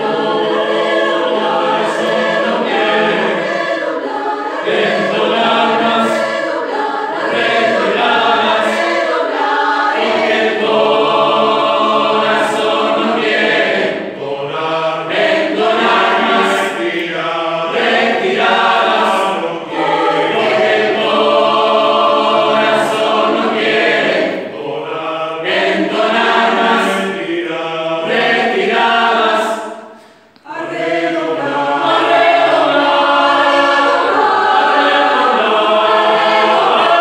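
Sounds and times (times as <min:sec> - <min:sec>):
mixed choir singing unaccompanied: 0:00.0 - 0:37.0.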